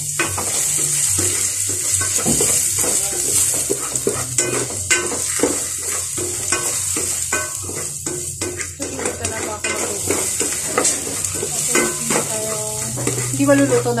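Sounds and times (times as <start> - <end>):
food sizzling in a pan: 0.0 - 14.0
spatula scraping a pan: 0.0 - 14.0.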